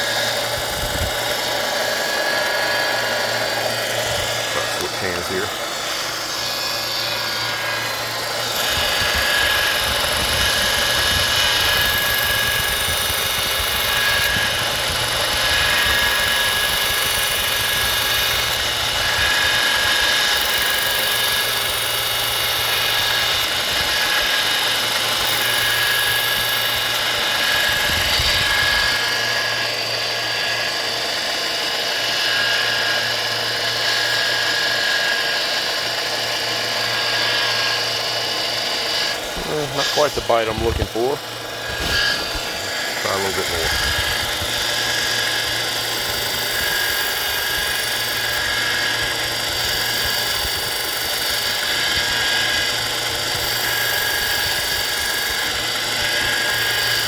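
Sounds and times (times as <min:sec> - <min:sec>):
belt sander motor whine: 0:00.0 - 0:57.0.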